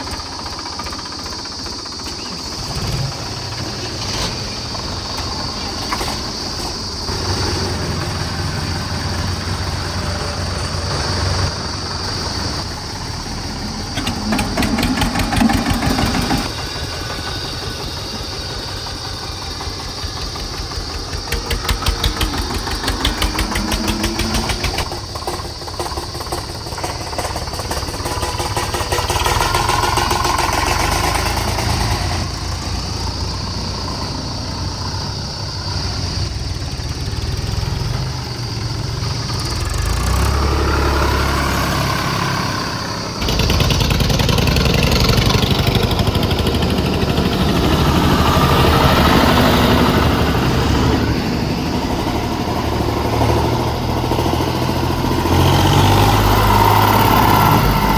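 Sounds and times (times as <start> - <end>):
diesel tractor engine knocking: 0.0 - 57.9.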